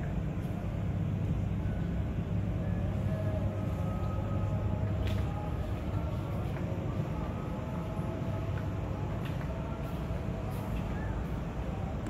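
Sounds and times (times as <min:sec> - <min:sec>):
city ambience rumble: 0:00.0 - 0:12.0.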